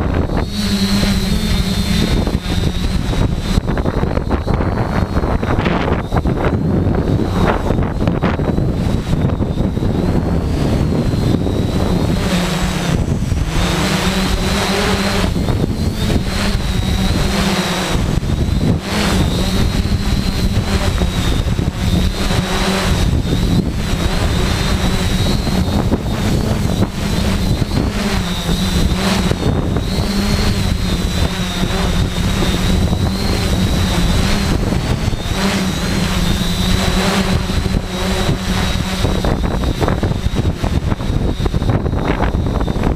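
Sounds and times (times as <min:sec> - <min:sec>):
drone motors and propellers humming: 0:00.0 - 0:42.9
wind buffeting microphone: 0:00.0 - 0:42.9.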